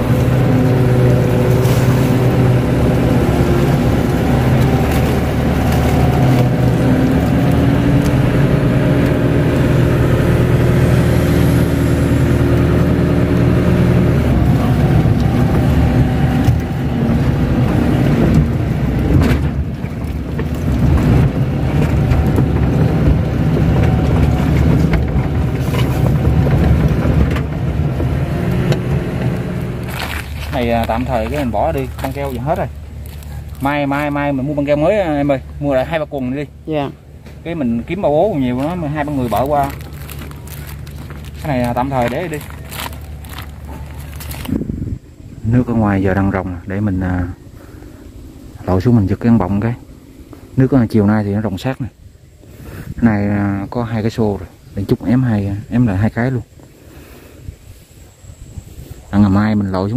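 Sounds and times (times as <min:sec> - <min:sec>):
excavator diesel engine running: 0:00.0 - 0:56.8.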